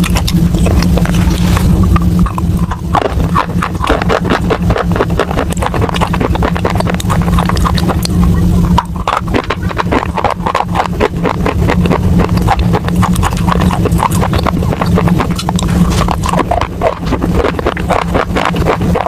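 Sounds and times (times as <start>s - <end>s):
crunching and chewing clay: 0.0s - 19.0s
steady low rumble: 0.0s - 19.0s.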